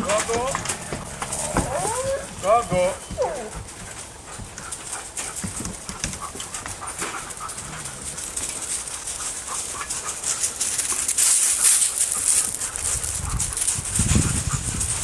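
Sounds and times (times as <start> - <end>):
dogs panting: 0.0 - 15.0.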